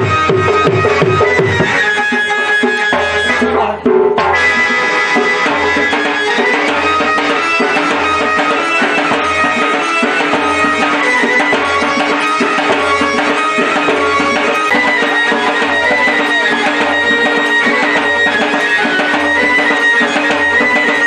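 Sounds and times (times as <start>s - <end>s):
drums beating: 0.0s - 21.0s
reed pipe high notes: 0.0s - 21.0s.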